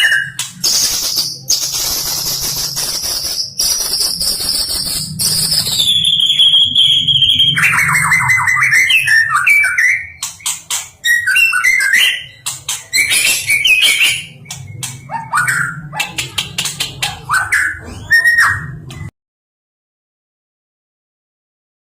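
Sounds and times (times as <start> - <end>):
bird singing varied song: 0.0 - 19.1.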